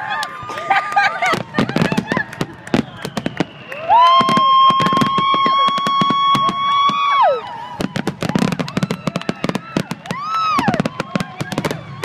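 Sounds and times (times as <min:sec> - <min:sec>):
fireworks bursts and bangs: 0:00.4 - 0:12.0.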